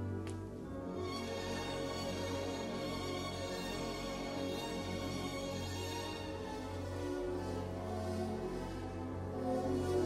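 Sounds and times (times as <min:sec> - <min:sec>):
film score music: 0:00.0 - 0:10.0.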